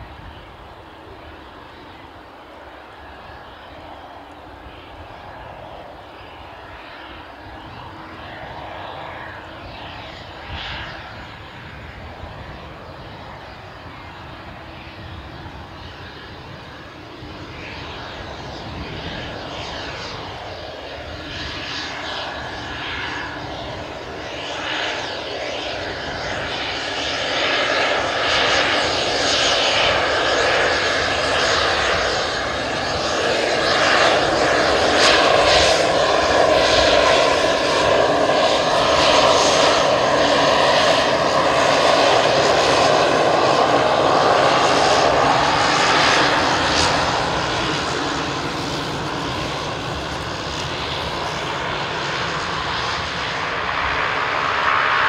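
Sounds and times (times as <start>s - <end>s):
propeller hum: 0.0s - 55.0s
turboprop turbine whine: 0.0s - 55.0s.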